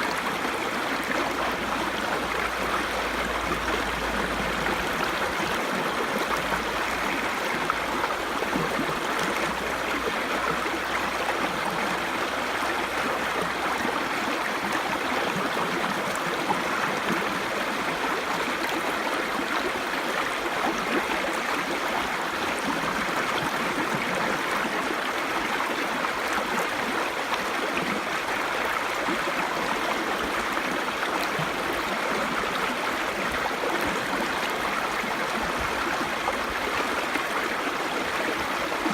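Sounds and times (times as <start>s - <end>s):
stream babbling: 0.0s - 38.9s.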